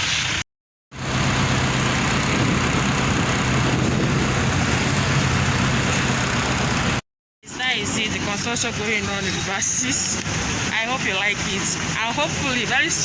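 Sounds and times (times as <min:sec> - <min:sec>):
street traffic noise: 0:00.0 - 0:13.0
vehicle engine humming: 0:00.9 - 0:13.0.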